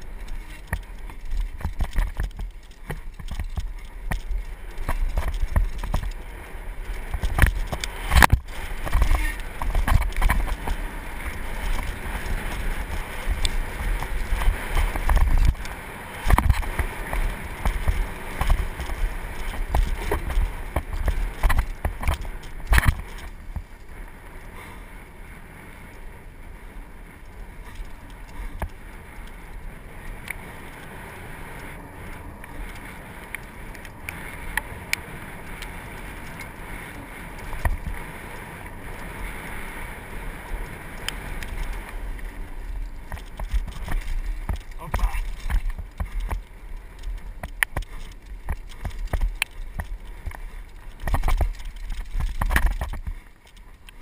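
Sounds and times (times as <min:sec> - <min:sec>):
bike rattling and knocking: 0:00.0 - 0:24.5, 0:27.2 - 0:54.0
bike tyres rumbling over gravel: 0:00.0 - 0:54.0
wind rushing on microphone: 0:00.0 - 0:54.0.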